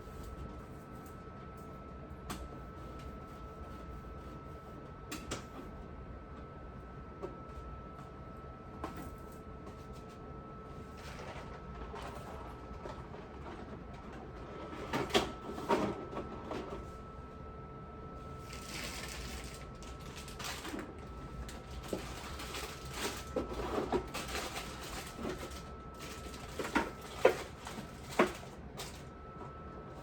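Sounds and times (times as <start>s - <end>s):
faint high hum: 0.0s - 30.0s.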